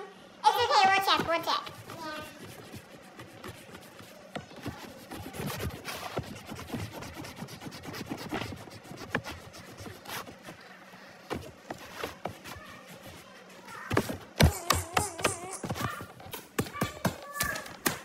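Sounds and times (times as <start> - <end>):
pencils scratching on paper: 1.4 - 16.2.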